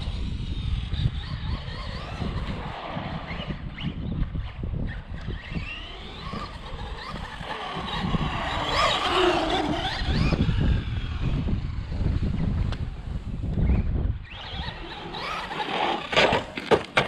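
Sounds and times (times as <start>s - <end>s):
electric motor whining: 0.0s - 16.7s.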